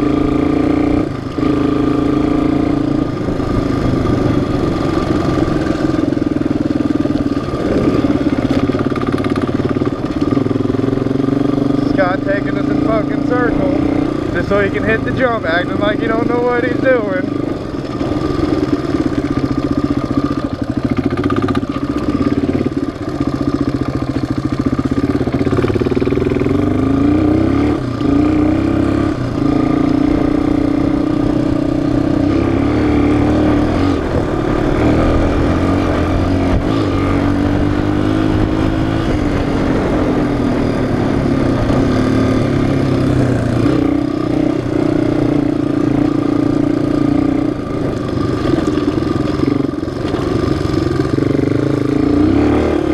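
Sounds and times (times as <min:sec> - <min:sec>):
single-cylinder engine revving: 0:00.0 - 0:52.9.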